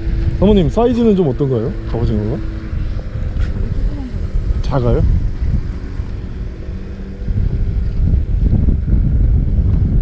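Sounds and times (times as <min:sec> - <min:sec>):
faint boat engine hum: 0:00.0 - 0:10.0
wind rumbling on microphone: 0:00.0 - 0:10.0.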